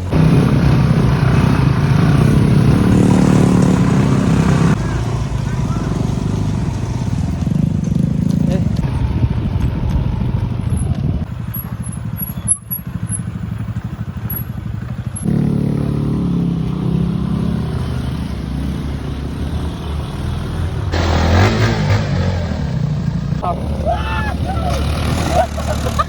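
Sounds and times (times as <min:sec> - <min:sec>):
motorcycle engine running: 0:00.0 - 0:19.4, 0:20.6 - 0:26.0.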